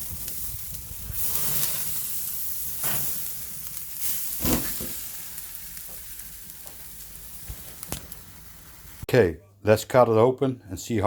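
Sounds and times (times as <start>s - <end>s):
steak sizzling: 0.0s - 9.1s.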